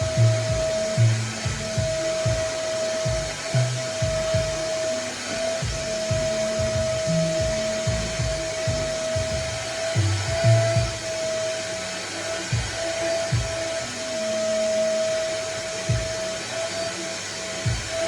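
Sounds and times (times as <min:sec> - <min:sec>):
music with shifting bass line: 0:00.0 - 0:18.0
vacuum cleaner motor whine: 0:00.0 - 0:18.0.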